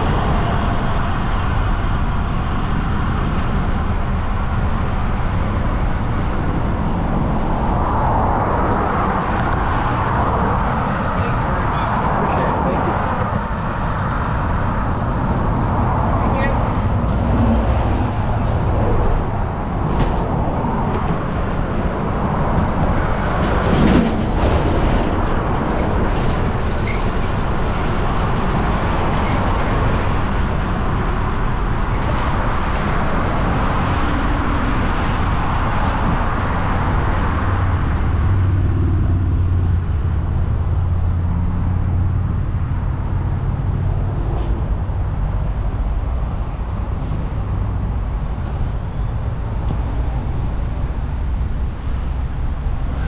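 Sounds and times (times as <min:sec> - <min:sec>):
highway traffic passing: 0:00.0 - 0:53.0
wind rumble on microphone: 0:00.0 - 0:53.0.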